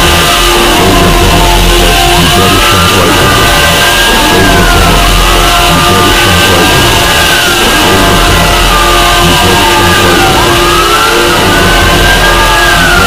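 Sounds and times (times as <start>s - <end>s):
dense low drone: 0.0s - 13.0s
wailing tones gliding: 0.0s - 13.0s.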